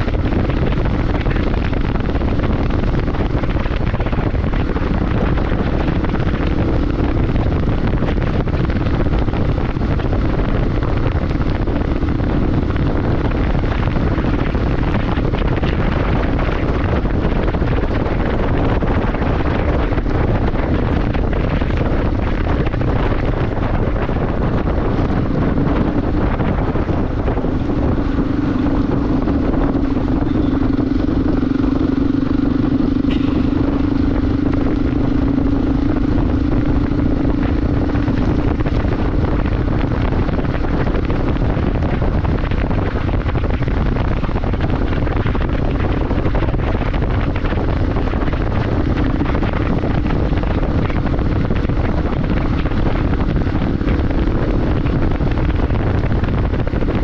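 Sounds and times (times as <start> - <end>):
motorcycle engine drone: 0.0 - 57.0
wind buffeting microphone: 0.0 - 57.0.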